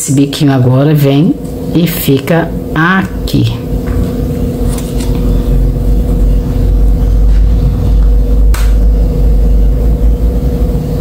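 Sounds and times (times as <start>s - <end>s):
sealing machine electrical hum: 0.0s - 11.0s.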